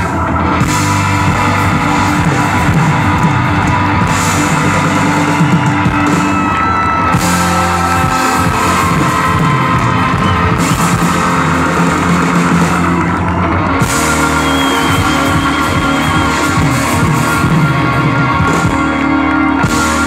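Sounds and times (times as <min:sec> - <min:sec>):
live band playing loud music: 0:00.0 - 0:20.0.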